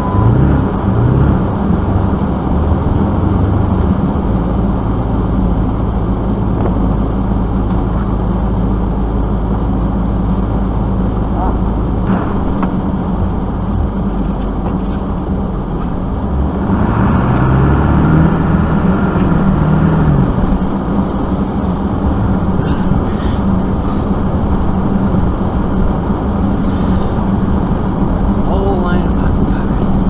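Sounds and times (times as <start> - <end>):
vehicle engine running and revving: 0.0 - 30.0.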